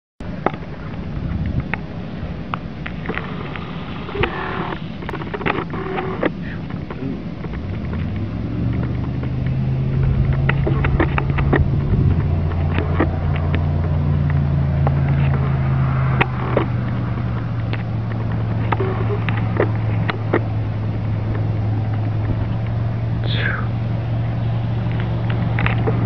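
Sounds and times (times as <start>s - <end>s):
engine humming: 0.2s - 26.0s
rumble: 0.2s - 26.0s
sharp clicks: 2.5s - 26.0s.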